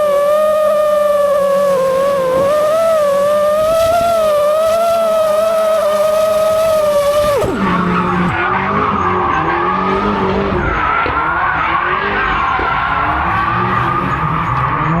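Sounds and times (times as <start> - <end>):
car engines revving: 0.0 - 15.0
drone motors whining: 0.0 - 15.0
tyres skidding: 0.0 - 15.0.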